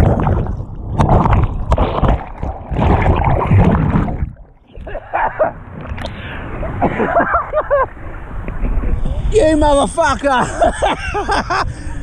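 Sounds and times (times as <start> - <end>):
water rushing and gurgling: 0.0 - 10.7.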